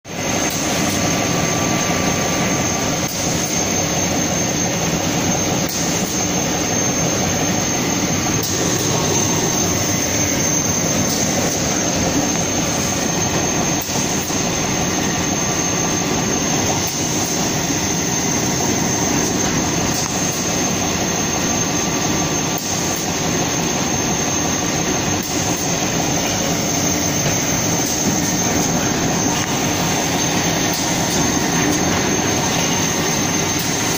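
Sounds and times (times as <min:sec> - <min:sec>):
high-pitched machine whine: 0:00.1 - 0:33.9
roller machine running: 0:00.1 - 0:33.9.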